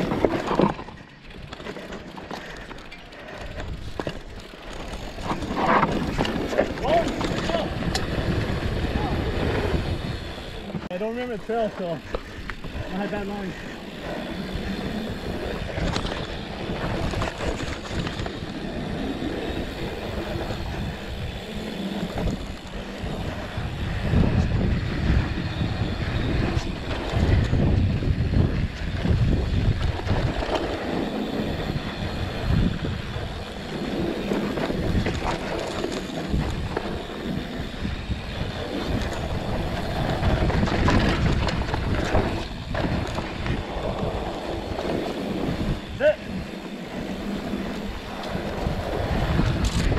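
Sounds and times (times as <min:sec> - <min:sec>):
wind rushing over microphone: 0:00.0 - 0:01.0, 0:03.5 - 0:49.9
bike knocking and rattling: 0:00.0 - 0:49.9
tyres rolling on dirt: 0:00.0 - 0:49.9.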